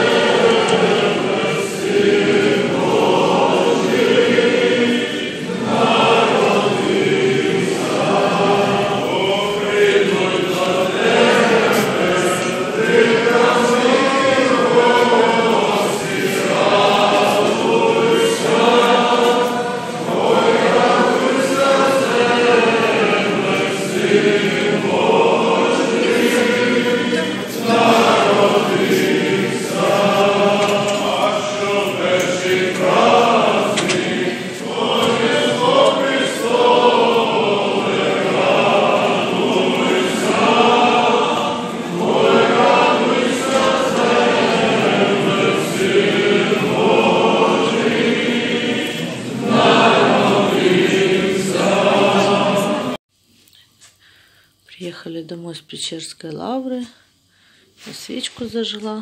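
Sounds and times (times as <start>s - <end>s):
church choir chanting: 0.0s - 53.0s.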